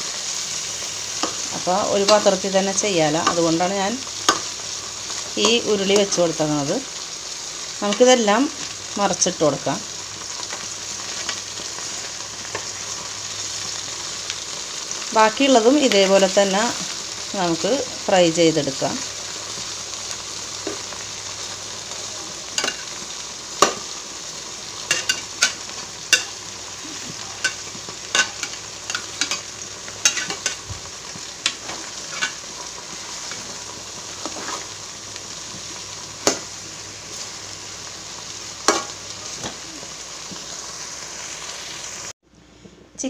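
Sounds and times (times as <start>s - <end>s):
chicken sizzling in oil: 0.0s - 42.2s.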